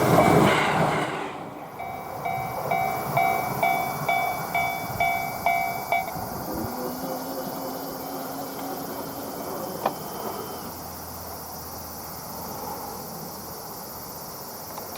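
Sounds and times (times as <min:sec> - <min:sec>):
insects chirping: 0:00.0 - 0:14.9
low train rumble: 0:00.0 - 0:14.9.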